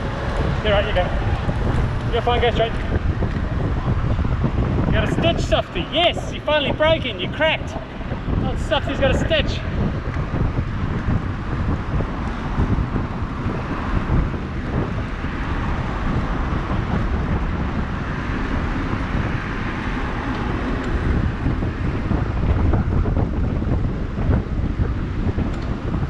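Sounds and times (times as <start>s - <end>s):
road traffic rush: 0.0s - 26.0s
wind buffeting microphone: 0.0s - 26.0s.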